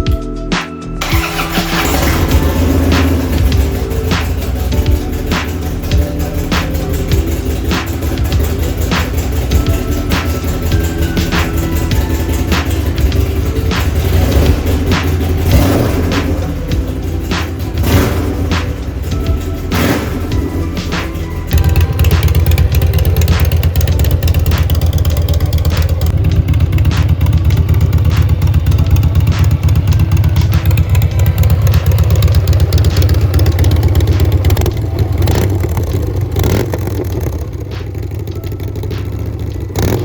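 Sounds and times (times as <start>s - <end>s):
motorcycle engine running loudly: 1.0s - 40.0s.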